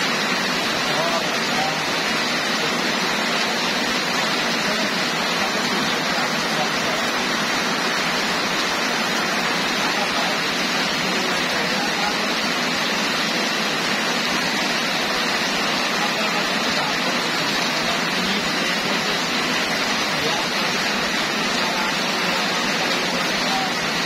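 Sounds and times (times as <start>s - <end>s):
heavy rain on paved road: 0.0s - 24.0s.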